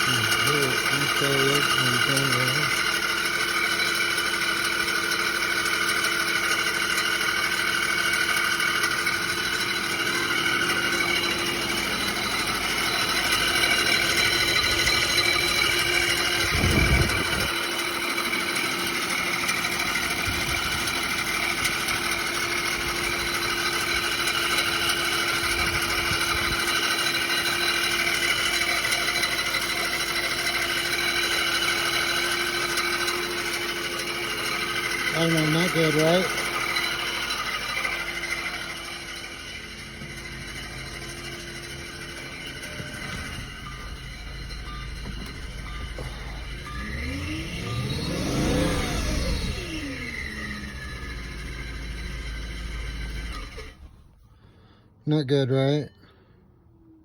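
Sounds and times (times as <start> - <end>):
high-pitched engine screeching: 0.0 - 54.6.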